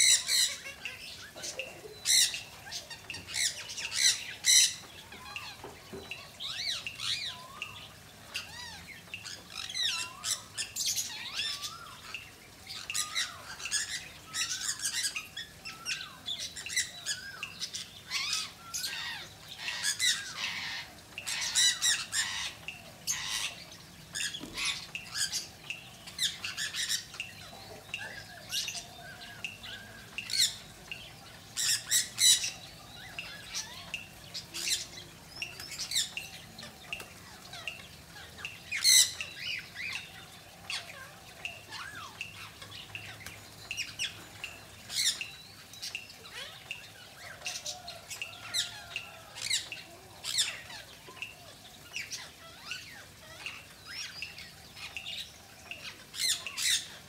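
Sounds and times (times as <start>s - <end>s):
birds squawking: 0.0s - 57.0s.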